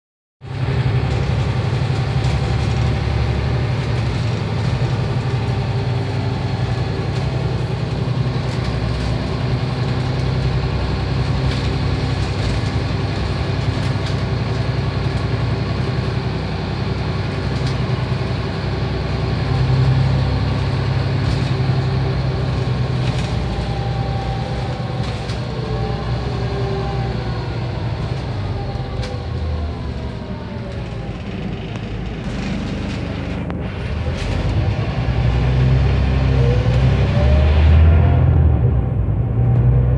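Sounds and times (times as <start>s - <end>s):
bus diesel engine running: 0.4s - 39.9s
rattles and clicks: 0.5s - 35.3s.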